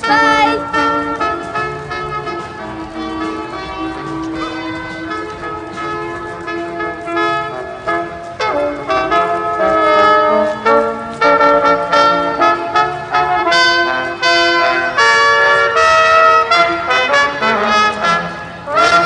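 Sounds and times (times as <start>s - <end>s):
trumpet-led brass music: 0.0s - 19.0s.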